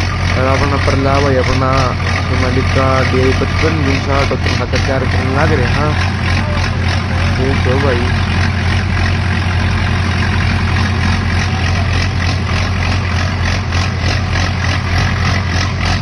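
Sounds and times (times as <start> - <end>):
fast regular pulsing: 0.0 - 16.0
tractor diesel engines under load: 0.0 - 16.0
tyres spinning against ground: 0.0 - 16.0.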